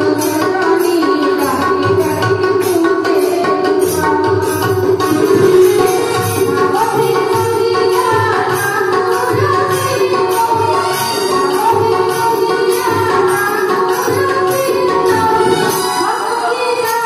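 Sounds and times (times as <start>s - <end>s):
hand drum beat: 0.0s - 16.0s
devotional song melody: 0.0s - 17.0s.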